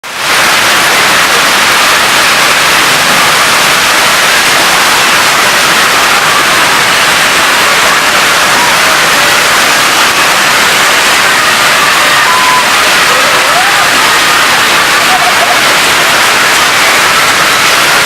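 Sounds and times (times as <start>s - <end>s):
hail and heavy rain pelting: 0.0s - 18.0s.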